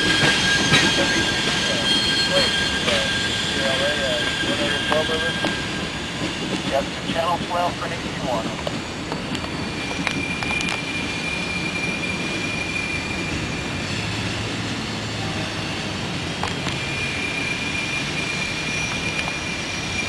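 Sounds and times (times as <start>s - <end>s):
high wheel squeal: 0.0s - 20.0s
train wheels rumbling on rails: 0.0s - 20.0s.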